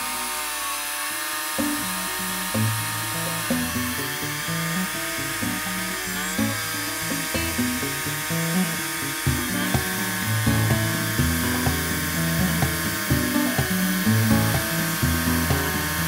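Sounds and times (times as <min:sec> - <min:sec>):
band sawmill whine: 0:01.2 - 0:16.0
background music with bass line: 0:01.6 - 0:16.0.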